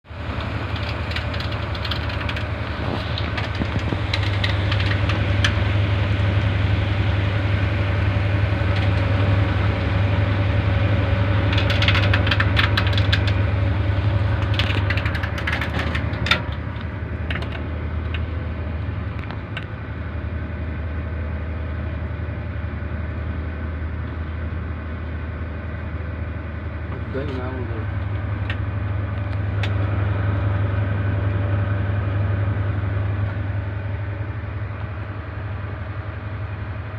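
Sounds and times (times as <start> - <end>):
constant low hum: 0.0 - 36.9.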